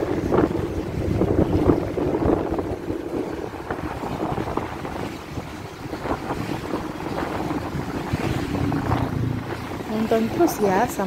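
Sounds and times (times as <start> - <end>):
motorcycle engine and road rumble: 0.0 - 11.0
wind buffeting microphone: 0.0 - 11.0.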